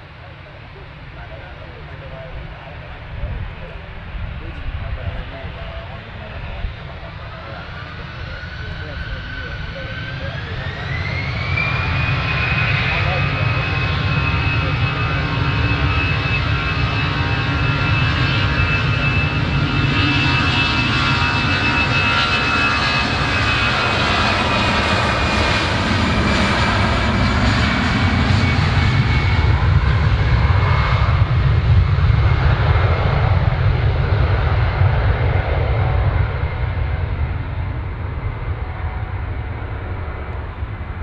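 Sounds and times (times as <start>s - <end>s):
jet engine high whine: 0.0s - 41.0s
jet engine rumble: 0.0s - 41.0s.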